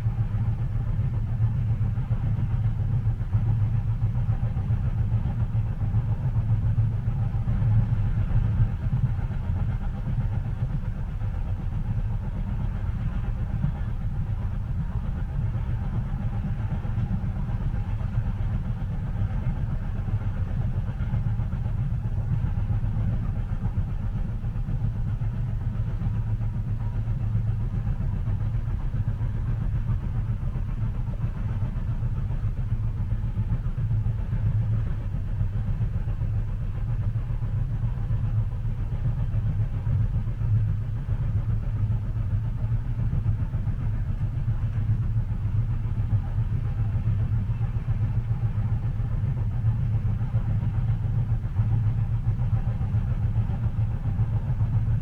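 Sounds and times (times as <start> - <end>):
train rumble inside cabin: 0.0 - 55.0.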